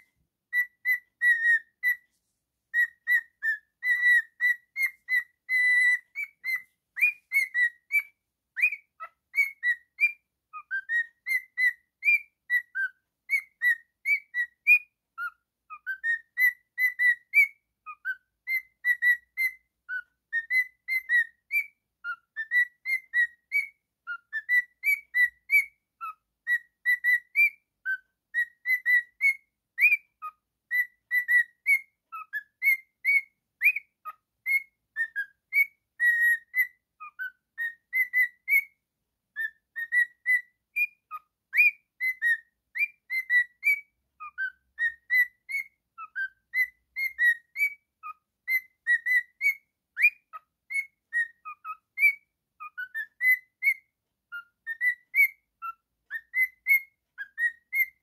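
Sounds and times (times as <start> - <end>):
cockatiel whistling: 0.0 - 58.0.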